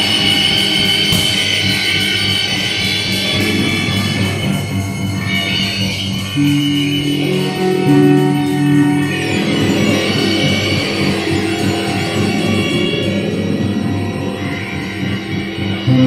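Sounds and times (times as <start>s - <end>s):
bass sustained low notes: 0.0s - 16.0s
electric guitar sustained notes: 0.0s - 16.0s
electronic loops: 0.0s - 16.0s.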